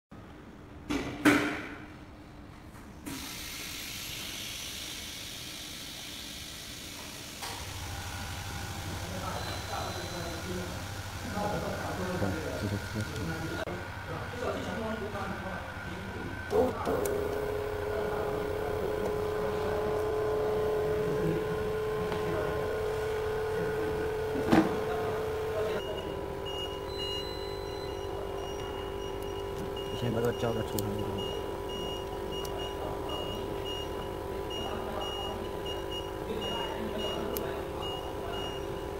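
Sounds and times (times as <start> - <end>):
vacuum pump humming: 7.4 - 38.9.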